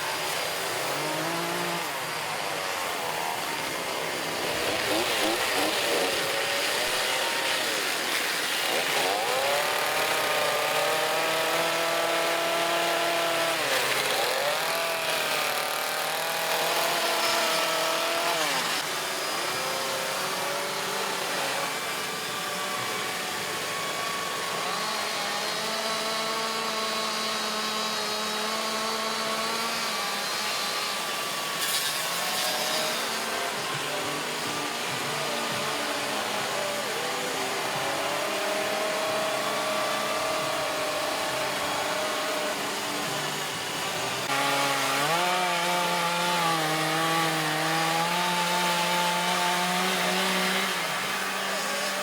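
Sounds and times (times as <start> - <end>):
chainsaws cutting wood: 0.0 - 52.0.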